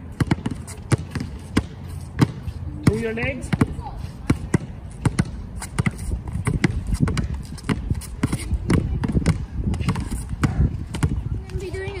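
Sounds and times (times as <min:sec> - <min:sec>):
basketballs bouncing on asphalt: 0:00.0 - 0:12.0.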